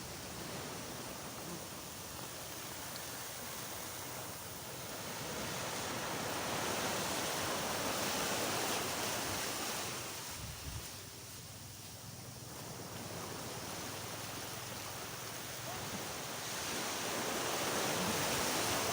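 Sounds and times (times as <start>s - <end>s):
waves washing onto a beach: 0.0s - 18.9s.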